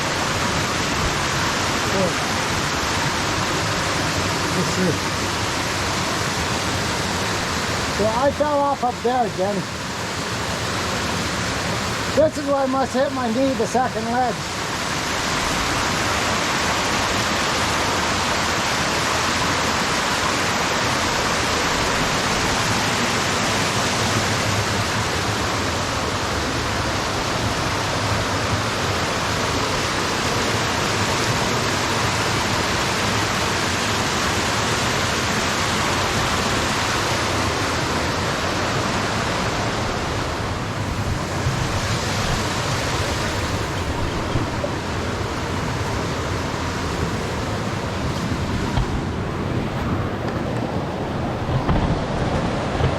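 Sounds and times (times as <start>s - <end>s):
waterfall rushing over rocks: 0.0s - 52.9s.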